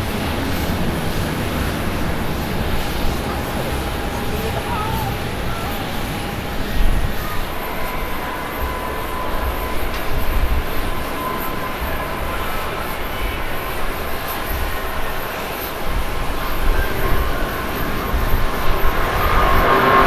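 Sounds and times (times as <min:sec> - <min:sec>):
faint high engine whine: 0:00.0 - 0:20.0
jet engines rumbling: 0:00.0 - 0:20.0.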